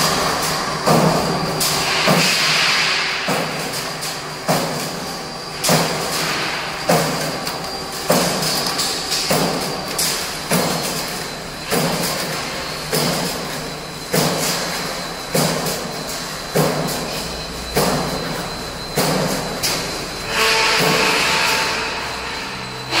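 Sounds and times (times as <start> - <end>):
roll forming machine hum: 0.0 - 23.0.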